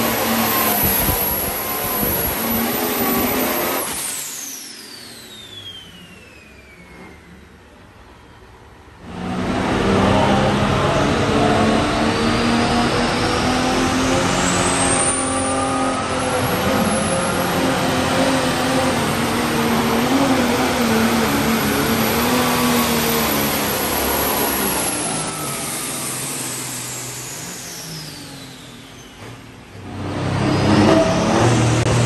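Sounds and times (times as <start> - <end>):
high turbo whistle: 0.0 - 7.4, 9.1 - 28.9
diesel engine at full throttle: 0.0 - 32.0.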